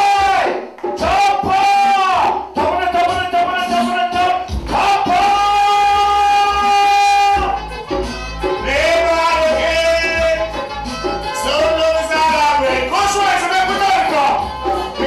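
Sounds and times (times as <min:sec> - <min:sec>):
man singing into microphone: 0:00.0 - 0:07.7, 0:08.5 - 0:15.0
reggae backing track: 0:00.0 - 0:15.0.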